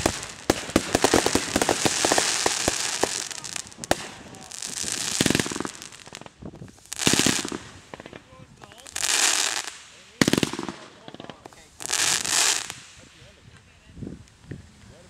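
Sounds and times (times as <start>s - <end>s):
fireworks popping and crackling: 0.0s - 13.7s.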